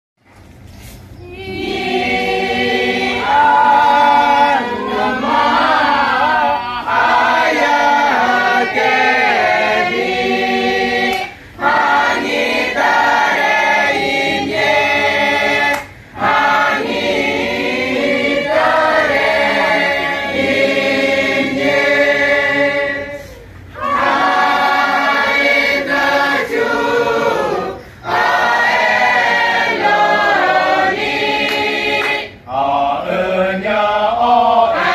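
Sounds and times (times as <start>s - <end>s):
mixed choir singing: 1.2s - 34.9s.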